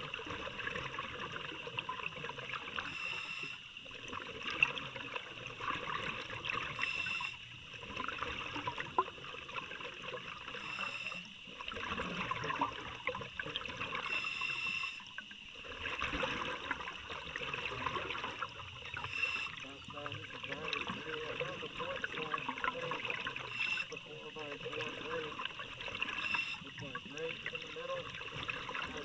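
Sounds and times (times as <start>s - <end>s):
underwater bubbling of exhaled breath: 0.0s - 29.0s.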